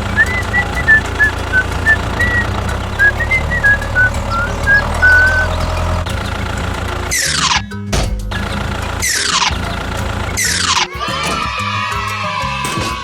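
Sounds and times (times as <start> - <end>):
vehicle engine running: 0.0 - 11.1
melody of short high notes: 0.0 - 11.6.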